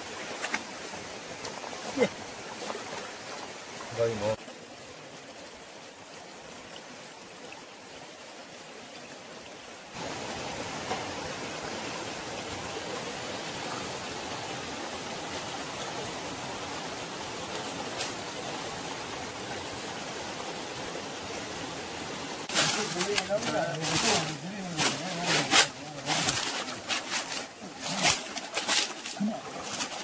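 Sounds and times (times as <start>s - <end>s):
shallow stream rushing: 0.0s - 30.0s.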